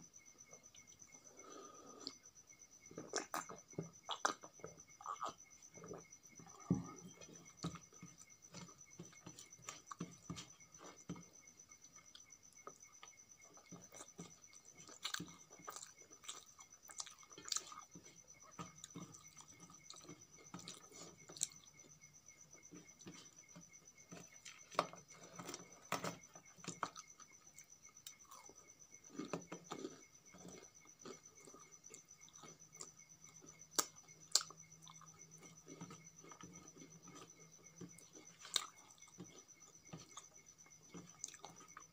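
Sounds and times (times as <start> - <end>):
chewing: 0.7 - 2.2, 2.9 - 11.3, 12.0 - 22.0, 22.6 - 41.9.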